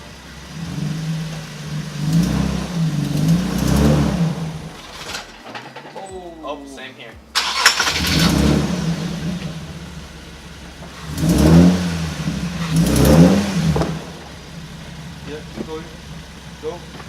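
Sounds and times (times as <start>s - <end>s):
car engine revving: 0.0s - 5.4s, 7.2s - 17.0s.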